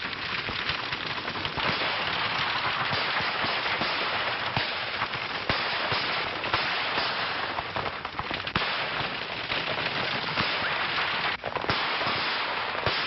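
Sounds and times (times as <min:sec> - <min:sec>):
sharp cracks and pops: 0:00.0 - 0:13.0.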